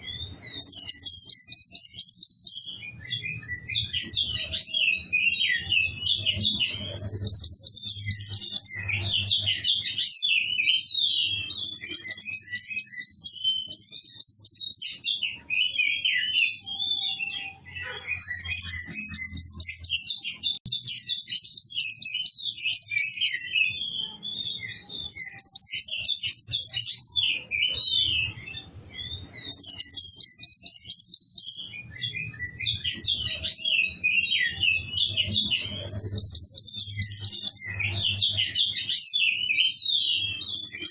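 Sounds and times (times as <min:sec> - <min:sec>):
songbird trilling and twittering: 0:00.0 - 0:40.9.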